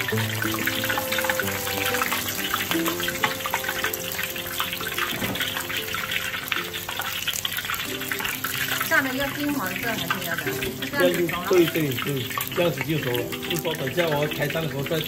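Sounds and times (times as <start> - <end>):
background music: 0.0 - 15.0
oil sizzling and crackling: 0.0 - 15.0.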